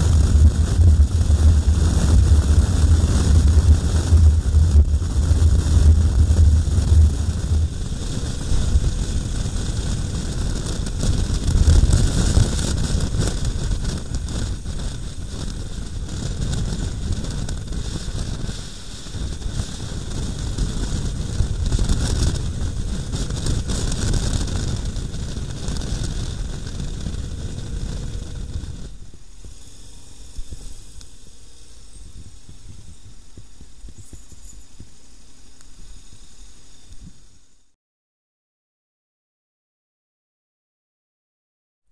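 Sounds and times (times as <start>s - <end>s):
wind rushing over microphone: 0.0s - 35.0s
motorcycle rumble: 0.0s - 35.1s.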